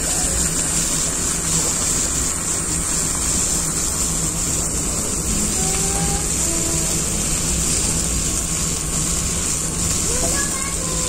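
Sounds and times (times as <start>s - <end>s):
steak sizzling on hot plate: 0.0s - 11.0s.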